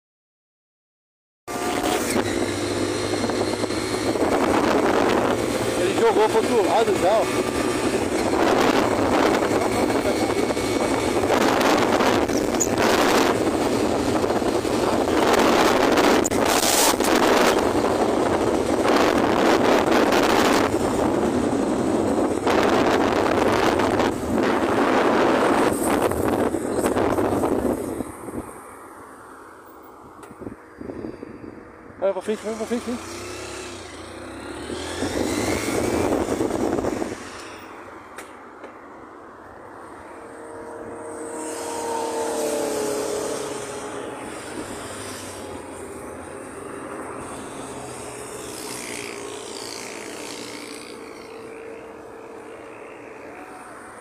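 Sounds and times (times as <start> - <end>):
passing vehicle engine: 1.5 - 54.0
road noise: 1.5 - 54.0
wind rushing over microphone: 1.6 - 38.5, 39.5 - 54.0.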